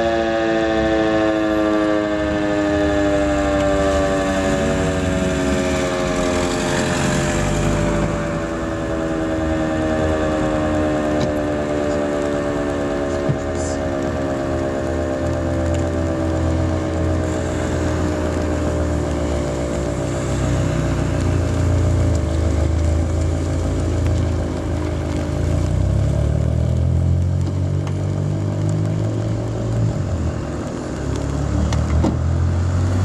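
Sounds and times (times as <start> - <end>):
civil defence siren winding down: 0.0 - 26.7.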